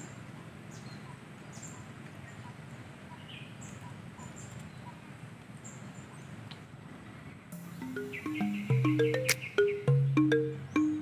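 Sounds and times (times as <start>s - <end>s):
faint birds chirping: 0.0s - 11.0s
outdoor background noise: 0.0s - 11.0s.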